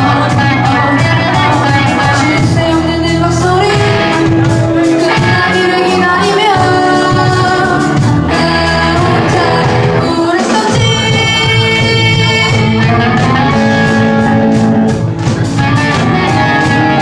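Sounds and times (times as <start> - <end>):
woman singing lead: 0.0 - 14.6
drum kit beat: 0.0 - 17.0
electric bass: 0.0 - 17.0
electric guitars: 0.0 - 17.0
keyboard: 0.0 - 17.0.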